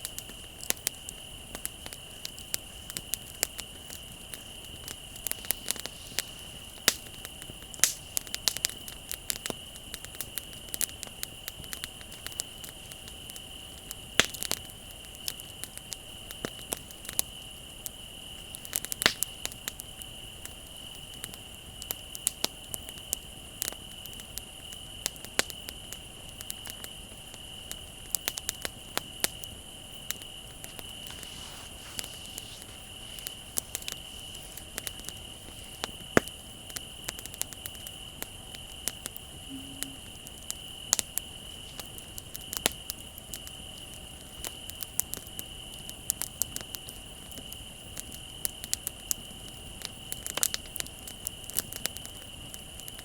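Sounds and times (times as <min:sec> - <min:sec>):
campfire crackling and popping: 0:00.0 - 0:53.0
crickets trilling: 0:00.0 - 0:53.0.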